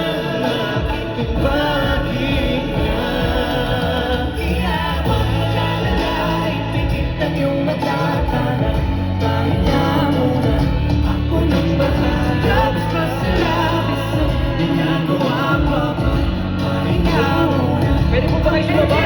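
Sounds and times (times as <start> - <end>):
held bass line: 0.0 - 19.0
live pop music with singing: 0.0 - 19.0.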